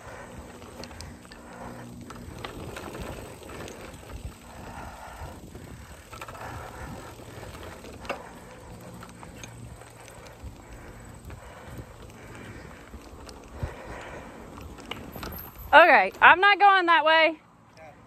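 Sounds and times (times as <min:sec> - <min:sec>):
tyre noise on dirt: 0:00.0 - 0:16.6
bike rattling over bumps: 0:00.0 - 0:17.2.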